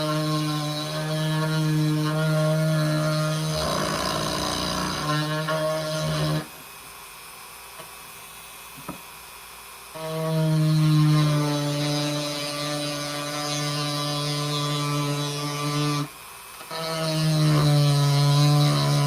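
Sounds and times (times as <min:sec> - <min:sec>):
electric power tool cutting wood: 0:00.0 - 0:06.6, 0:10.0 - 0:19.0.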